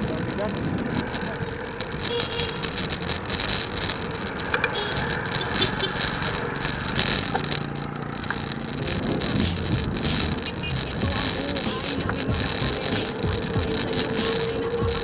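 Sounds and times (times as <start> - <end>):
motorcycle and car engines: 0.0 - 15.0
small clicks and rattles: 0.0 - 15.0.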